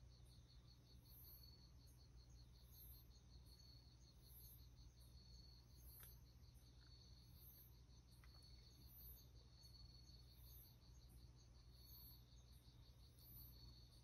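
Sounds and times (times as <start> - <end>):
high insect trill: 0.0 - 14.0
insect chirping: 0.0 - 14.0.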